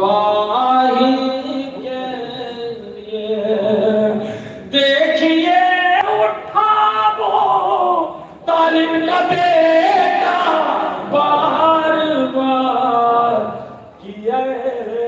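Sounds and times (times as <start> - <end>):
person singing over loudspeaker: 0.0 - 15.0.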